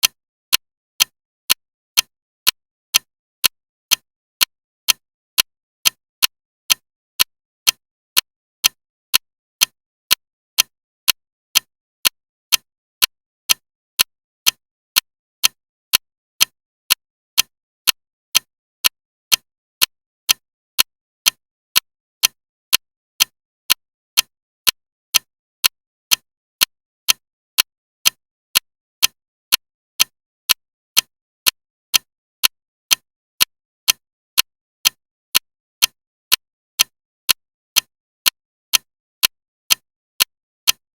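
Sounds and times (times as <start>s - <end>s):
loud ticking clock: 1.0s - 40.9s.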